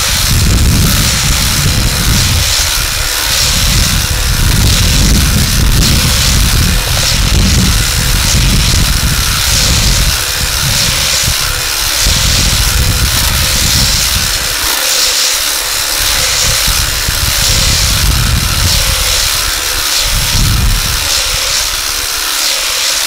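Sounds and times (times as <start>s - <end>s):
hedge trimmer cutting leaves: 0.0s - 23.0s.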